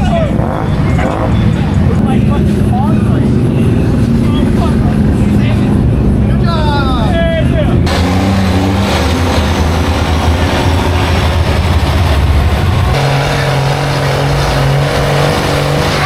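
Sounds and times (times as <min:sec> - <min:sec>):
vehicle engine running loud: 0:00.0 - 0:16.0.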